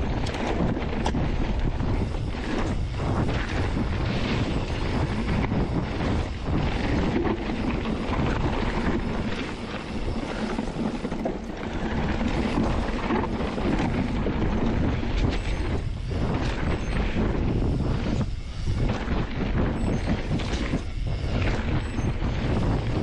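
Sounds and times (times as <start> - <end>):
bike rumble and rattle: 0.0 - 23.0
wind buffeting microphone: 0.0 - 23.0.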